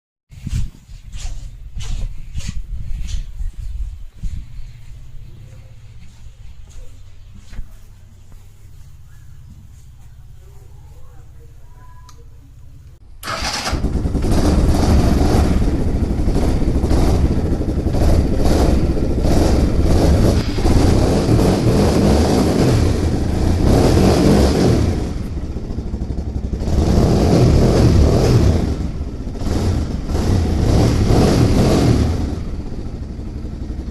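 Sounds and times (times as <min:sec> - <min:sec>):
motorcycle engine revving: 0:01.1 - 0:33.9.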